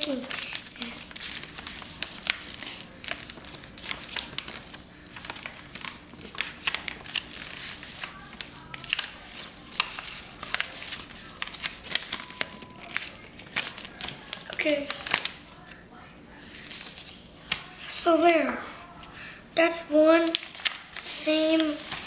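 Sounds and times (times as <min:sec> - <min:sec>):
paper crinkling and rustling: 0:00.0 - 0:15.8, 0:16.5 - 0:19.1, 0:20.2 - 0:22.0.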